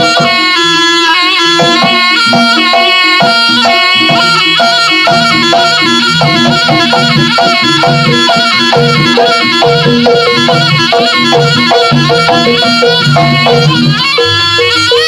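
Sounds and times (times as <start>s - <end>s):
gong-chime and drum pattern: 0.0s - 0.8s, 1.6s - 15.0s
shrill reedy shawm melody: 0.0s - 15.0s.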